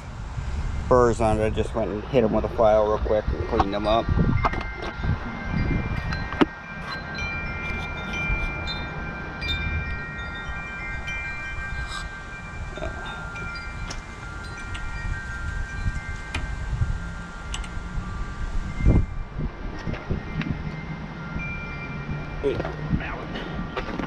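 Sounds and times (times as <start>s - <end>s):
wind chimes ringing: 0.0s - 24.0s.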